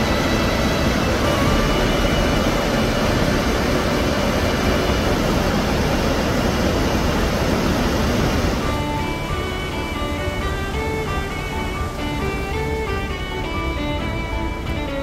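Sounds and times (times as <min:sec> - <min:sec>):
waterfall whitewater rushing: 0:00.0 - 0:15.0.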